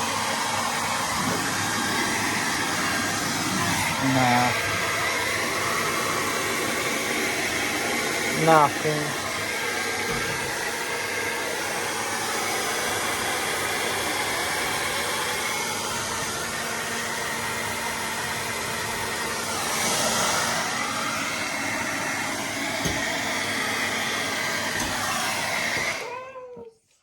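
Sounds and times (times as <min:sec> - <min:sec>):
hair dryer blowing: 0:00.0 - 0:26.7.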